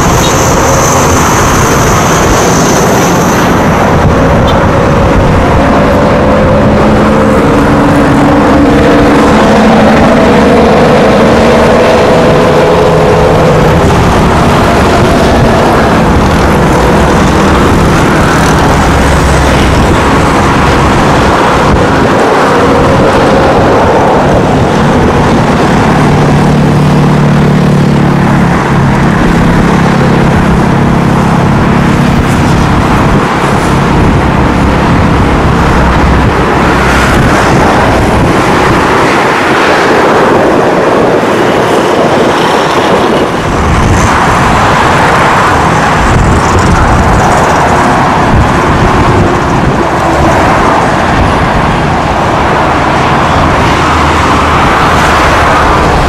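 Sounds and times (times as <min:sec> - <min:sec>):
distant jet taking off: 0:00.0 - 0:56.0
engine hum: 0:00.0 - 0:56.0
highway traffic: 0:00.0 - 0:56.0.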